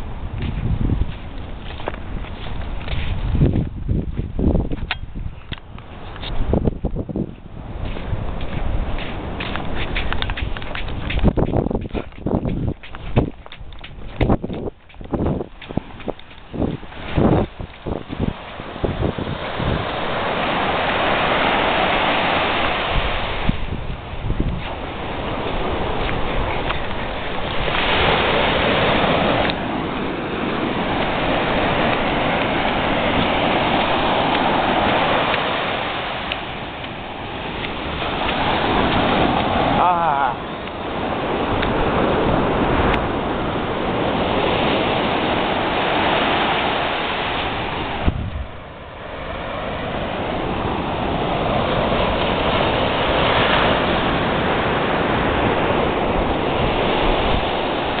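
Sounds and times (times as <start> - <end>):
surf washing over sand: 0.0 - 58.0.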